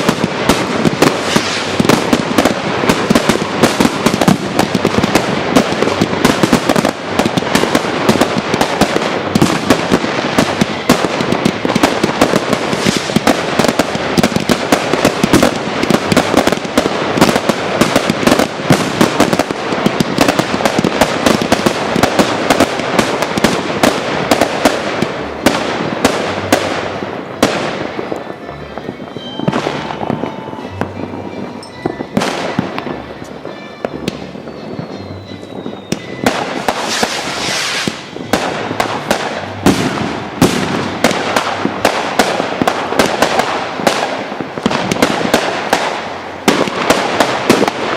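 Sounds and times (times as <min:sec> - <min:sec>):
fireworks crackling bangs: 0:00.0 - 0:47.9.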